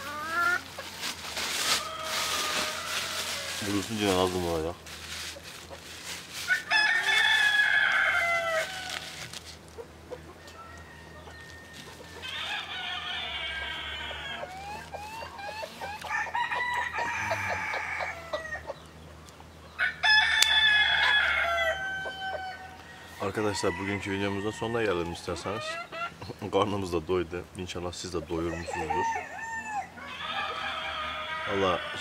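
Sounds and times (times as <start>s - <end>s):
roosters crowing: 0.0s - 26.9s, 27.8s - 32.0s.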